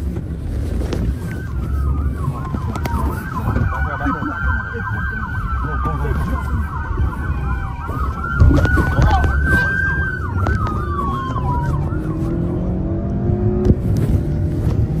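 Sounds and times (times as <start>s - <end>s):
low vehicle rumble: 0.0s - 15.0s
emergency siren yelp: 0.8s - 13.4s
siren wail: 0.8s - 13.4s.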